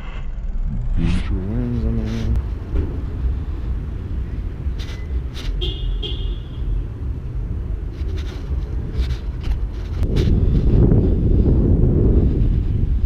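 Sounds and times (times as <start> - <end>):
wind rumble on microphone: 0.0 - 13.0
bicycle tyre noise on pavement: 2.1 - 13.0.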